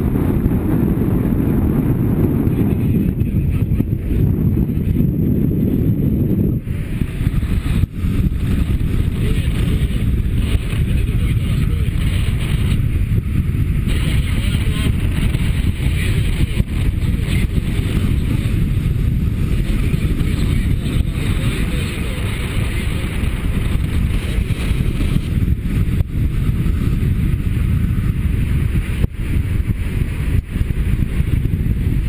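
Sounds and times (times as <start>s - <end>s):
wind rumbling over microphone: 0.0s - 32.0s.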